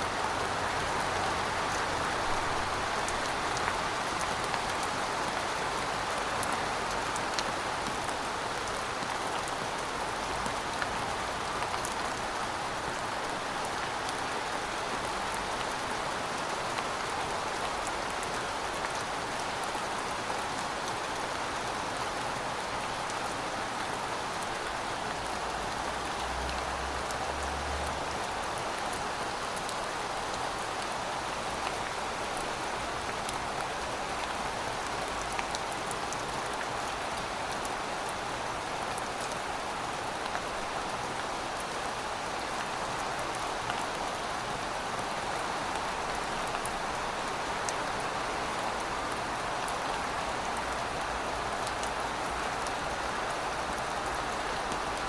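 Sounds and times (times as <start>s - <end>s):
raindrops ticking on surfaces: 0.0s - 55.0s.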